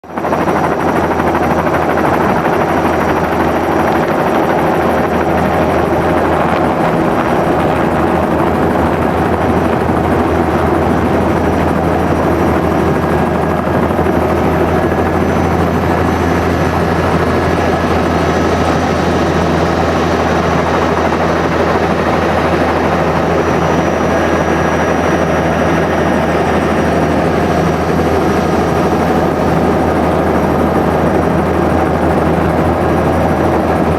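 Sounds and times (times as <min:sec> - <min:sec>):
helicopter engine and rotor drone: 0:00.0 - 0:33.9.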